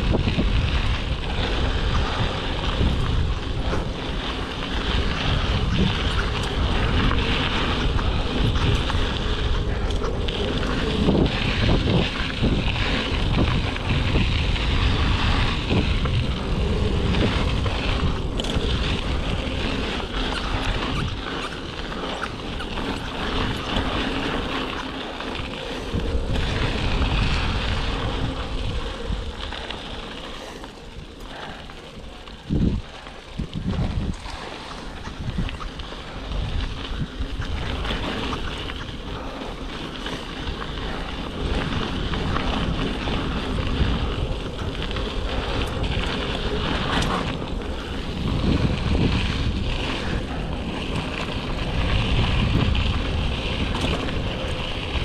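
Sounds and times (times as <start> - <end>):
bike tyres on gravel trail: 0.0 - 55.0
wind buffeting microphone: 0.0 - 55.0.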